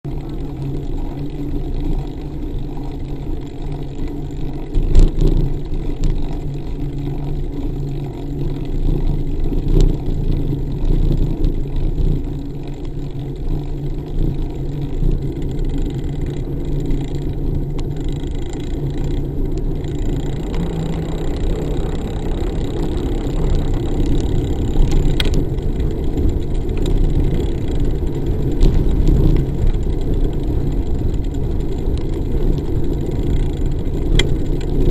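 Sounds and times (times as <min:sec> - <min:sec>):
wind and road rumble: 0:00.1 - 0:34.9.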